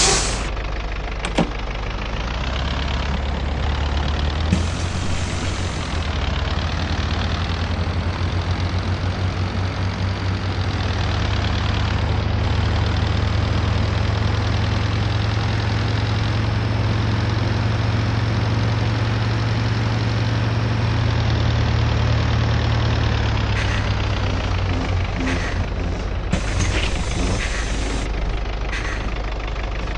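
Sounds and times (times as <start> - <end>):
bus diesel engine drone: 0.0 - 29.9.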